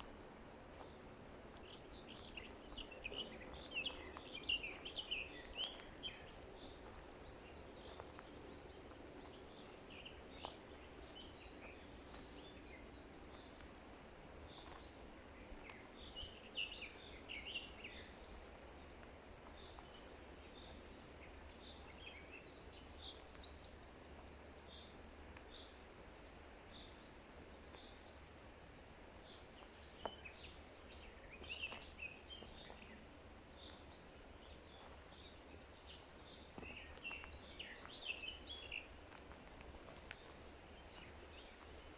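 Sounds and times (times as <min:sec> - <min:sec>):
birds chirping: 0:00.0 - 0:41.9
faint steady hiss: 0:00.0 - 0:41.9.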